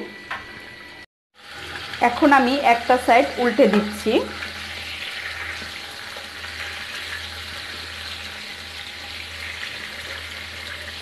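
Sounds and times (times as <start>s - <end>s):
eggplant sizzling in hot oil: 1.4s - 11.0s.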